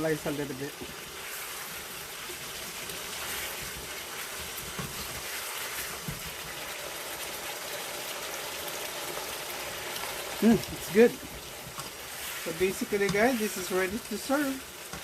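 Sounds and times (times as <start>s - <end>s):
sauce sizzling in a pot: 0.0s - 15.0s.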